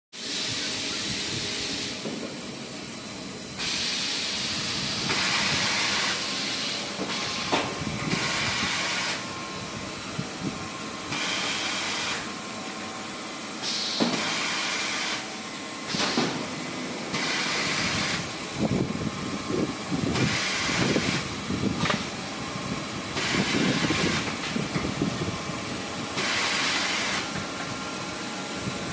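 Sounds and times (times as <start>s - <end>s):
paper cutting band saw running: 3.5s - 28.9s.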